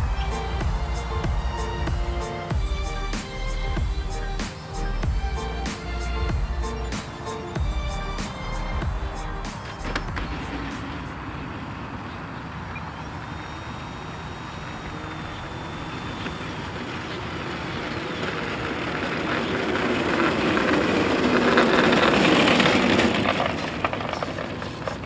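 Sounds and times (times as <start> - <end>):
model airplane propeller and wheels: 0.0 - 25.0.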